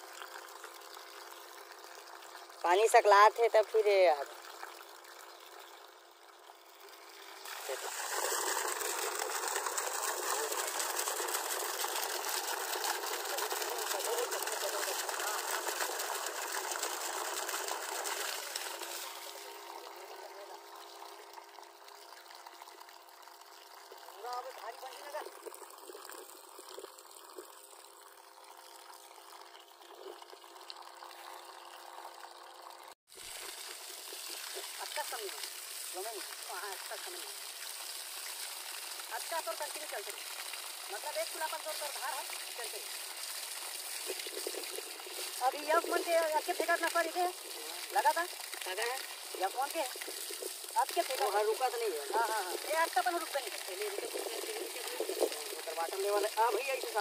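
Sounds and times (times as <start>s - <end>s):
water gushing from a pipe: 0.0s - 57.0s.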